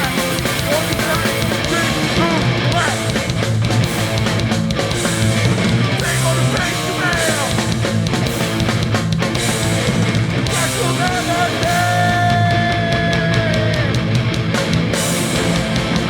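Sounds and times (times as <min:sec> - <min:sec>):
punk band playing: 0:00.0 - 0:16.0.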